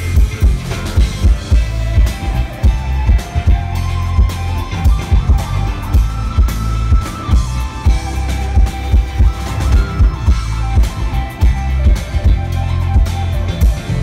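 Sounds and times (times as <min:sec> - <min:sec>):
electric guitar long notes: 0:00.0 - 0:14.0
heavy bass: 0:00.0 - 0:14.0
steady drum beat: 0:00.0 - 0:14.0.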